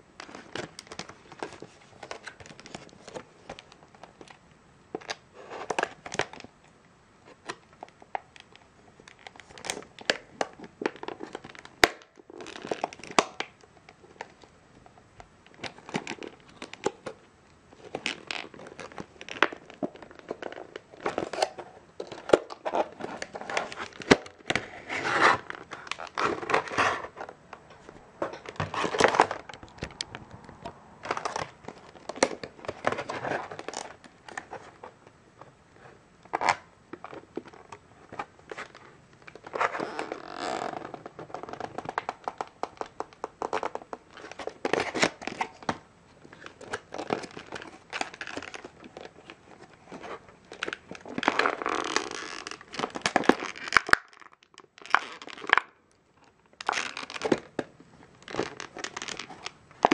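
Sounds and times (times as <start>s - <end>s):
plastic packaging crackling: 7.2s - 14.5s, 15.4s - 35.0s, 36.3s - 59.9s.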